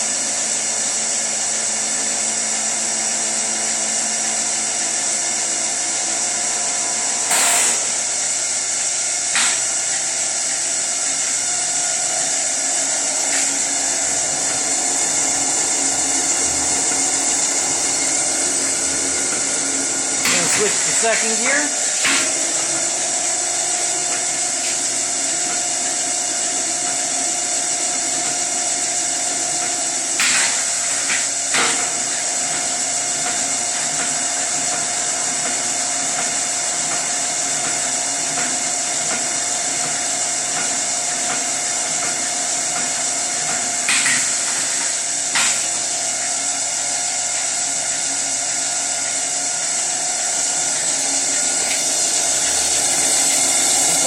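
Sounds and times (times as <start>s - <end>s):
mixer running with whine: 0.0s - 54.0s.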